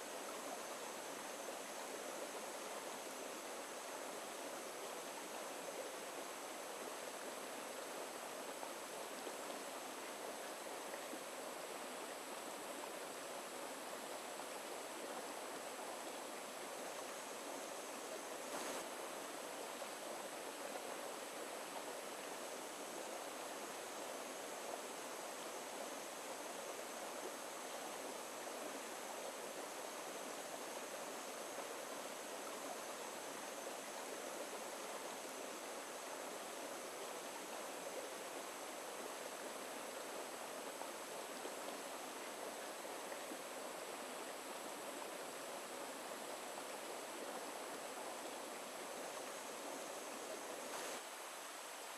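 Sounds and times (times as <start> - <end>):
stream flowing over stones: 0.0 - 51.9.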